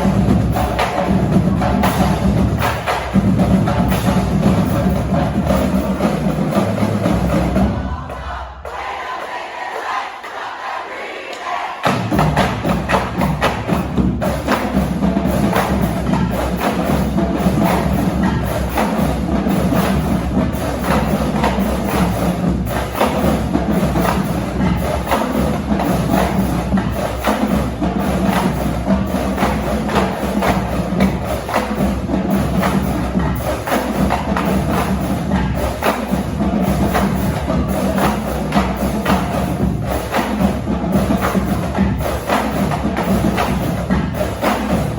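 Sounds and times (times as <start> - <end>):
bass drum: 0.0 - 8.1, 11.8 - 44.9
marching drumline cadence: 0.0 - 44.9.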